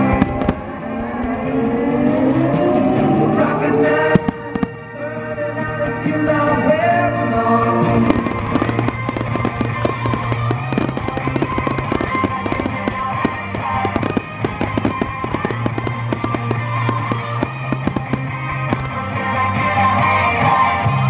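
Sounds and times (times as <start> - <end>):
fireworks bursting and crackling: 0.0 - 20.8
music: 0.0 - 21.0.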